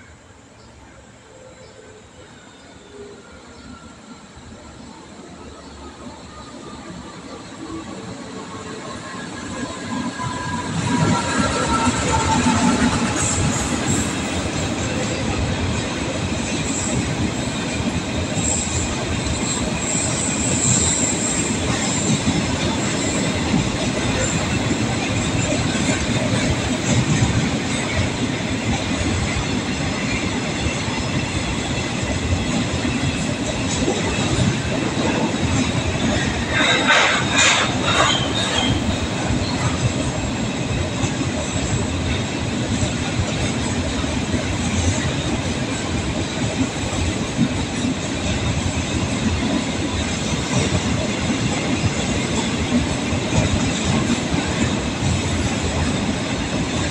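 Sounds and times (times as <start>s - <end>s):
freight wagons rumbling on rails: 6.5s - 56.9s.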